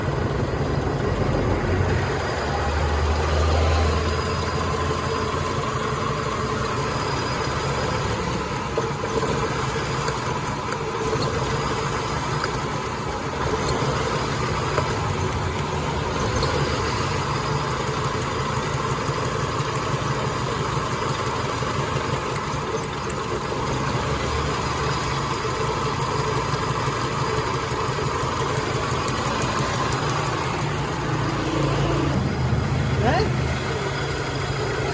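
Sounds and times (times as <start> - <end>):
car engine idling with misfire: 0.0 - 34.9.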